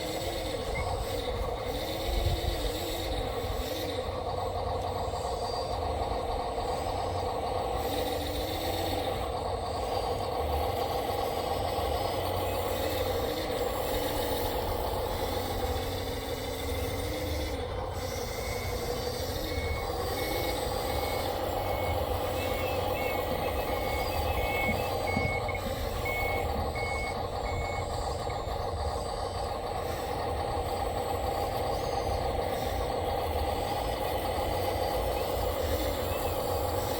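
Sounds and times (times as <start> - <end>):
electric motors whining: 0.0 - 36.9.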